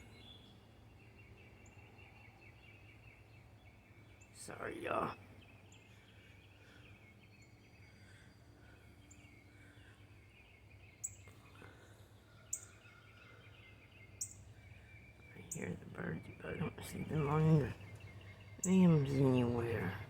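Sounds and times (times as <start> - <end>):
distant birds chirping: 0.0 - 20.0
outdoor background: 0.0 - 20.0.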